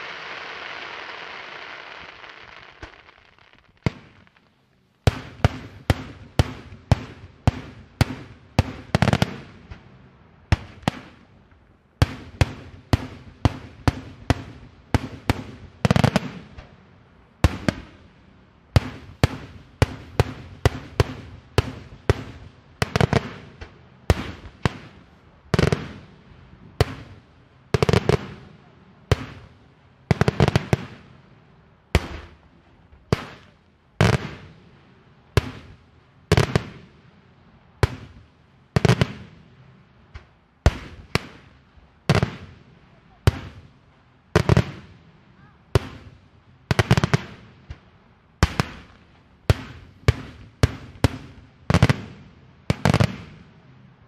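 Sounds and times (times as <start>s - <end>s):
fireworks bursting with sharp bangs: 0.0s - 53.9s.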